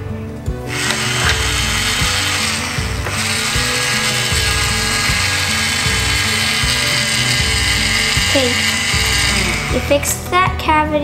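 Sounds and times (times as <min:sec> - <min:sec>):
background music: 0:00.0 - 0:11.0
toy drill ratcheting whirr: 0:00.7 - 0:09.9.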